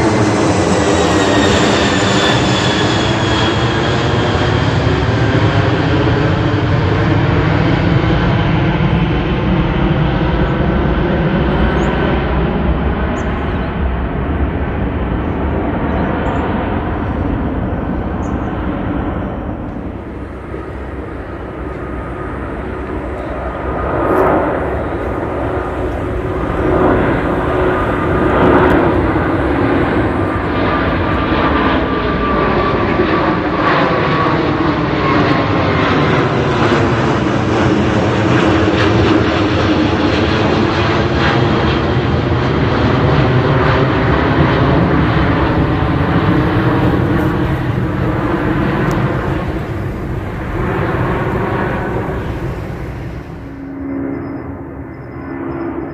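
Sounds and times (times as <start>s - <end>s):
jet engine whine: 0.0s - 55.9s
jet roar overhead: 0.0s - 55.9s.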